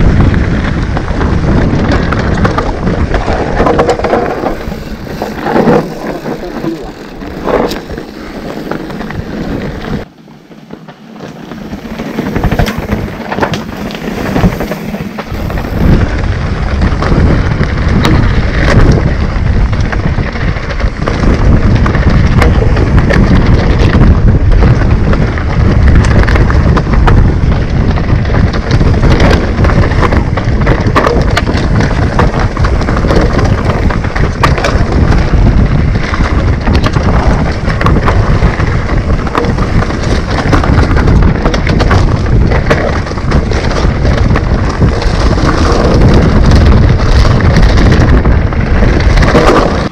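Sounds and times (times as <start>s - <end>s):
bike rattling over bumps: 0.0s - 49.9s
tyres crunching over gravel: 0.0s - 49.9s
wind rumble on microphone: 0.0s - 49.9s.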